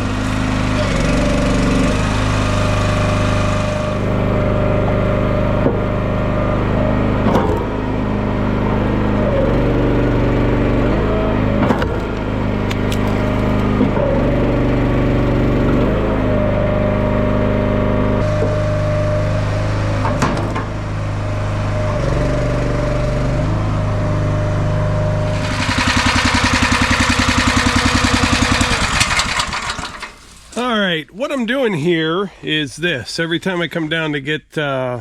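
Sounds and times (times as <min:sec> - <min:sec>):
log splitter engine running: 0:00.0 - 0:31.0.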